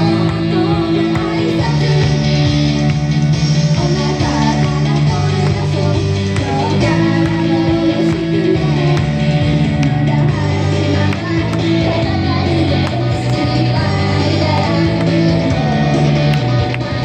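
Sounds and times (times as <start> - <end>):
girls singing into microphones: 0.0 - 2.7, 3.5 - 17.0
pop-rock backing track with guitar: 0.0 - 17.0.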